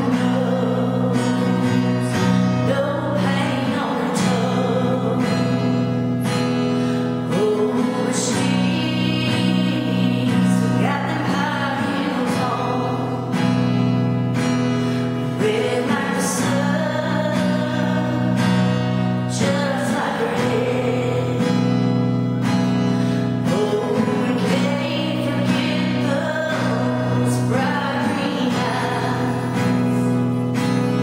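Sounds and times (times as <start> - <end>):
strummed acoustic guitar: 0.0 - 31.0
woman singing: 0.0 - 31.0.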